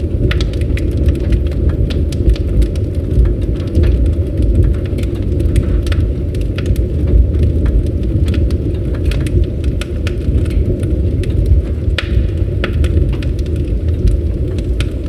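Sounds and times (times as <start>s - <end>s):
burning wood crackling: 0.0s - 15.0s
campfire flames roaring: 0.0s - 15.0s.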